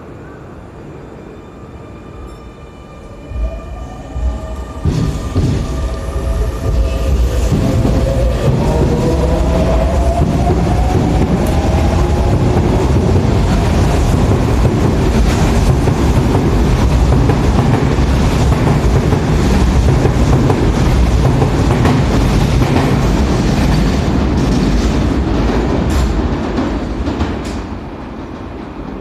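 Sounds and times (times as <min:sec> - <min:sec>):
electric train rolling past: 0:00.0 - 0:29.0.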